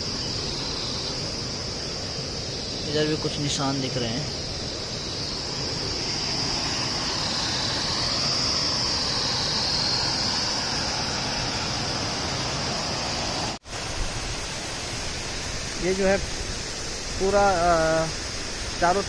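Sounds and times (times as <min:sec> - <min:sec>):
high even hiss: 0:00.0 - 0:19.0
river rushing: 0:00.0 - 0:19.0.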